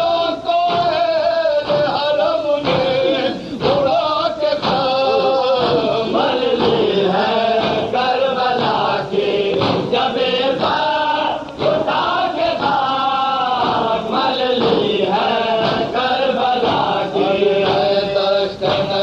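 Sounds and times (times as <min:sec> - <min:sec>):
male voices chanting in chorus: 0:00.0 - 0:19.0.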